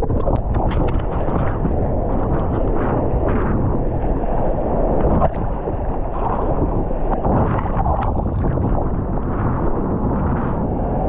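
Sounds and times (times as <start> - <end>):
surf and churning water: 0.0 - 11.0.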